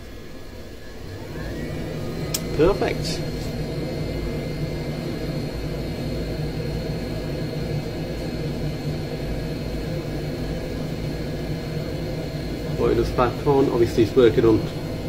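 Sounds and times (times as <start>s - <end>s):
boiler fan and burner hum: 0.0s - 15.0s.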